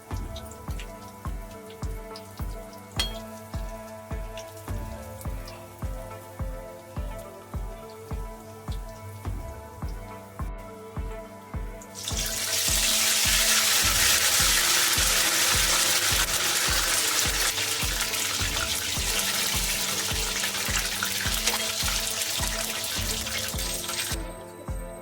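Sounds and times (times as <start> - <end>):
background music with beat: 0.0 - 25.0.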